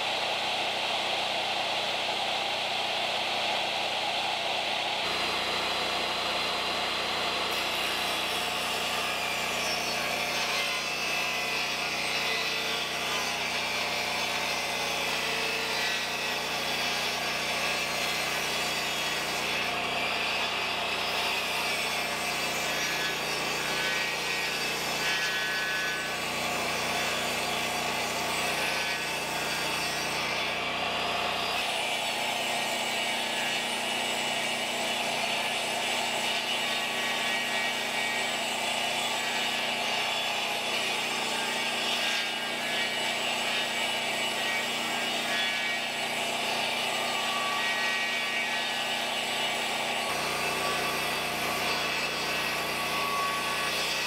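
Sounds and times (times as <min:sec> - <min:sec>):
table saw cutting boards: 0:00.0 - 0:54.0.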